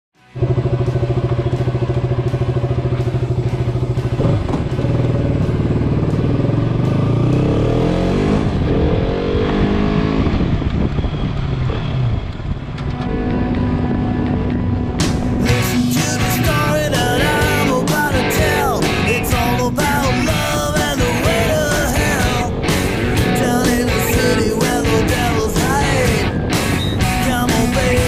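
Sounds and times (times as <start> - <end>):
motorcycle engine idling and revving: 0.2 - 28.0.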